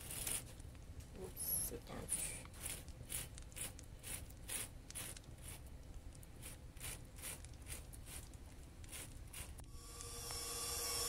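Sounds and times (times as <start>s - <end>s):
soft rustling squishes of casing: 0.0s - 9.7s.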